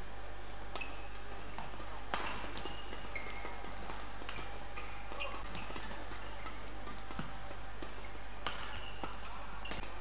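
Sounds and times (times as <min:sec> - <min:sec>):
low hall hum: 0:00.0 - 0:10.0
racket hitting shuttlecock: 0:00.7 - 0:10.0
shoes squeaking on court floor: 0:00.8 - 0:10.0.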